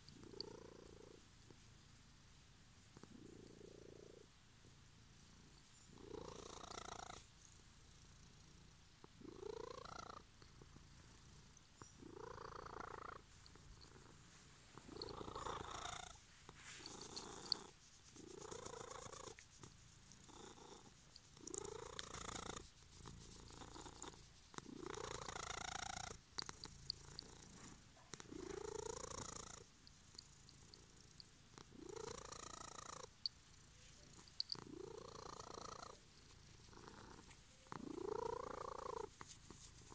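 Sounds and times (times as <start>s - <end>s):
cat purring loudly: 0.0s - 1.2s, 3.0s - 4.3s, 5.4s - 7.3s, 7.9s - 16.2s, 16.8s - 33.1s, 34.0s - 39.9s.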